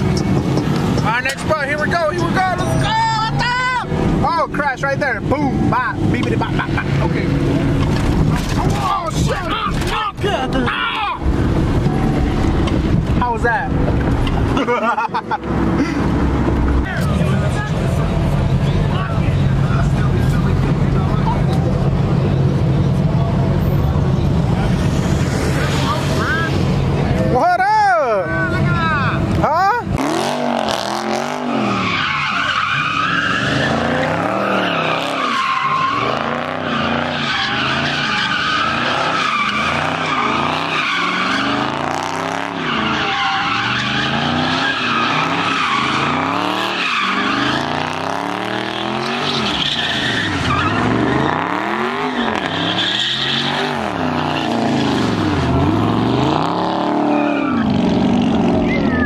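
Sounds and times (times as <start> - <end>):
car engine revving: 0.0 - 59.0
tyres squealing on asphalt: 0.0 - 59.0.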